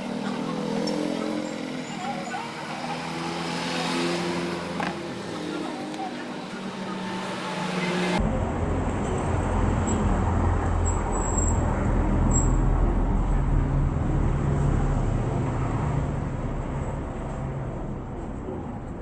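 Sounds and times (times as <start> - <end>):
passing motor vehicles rumbling: 0.0 - 19.0.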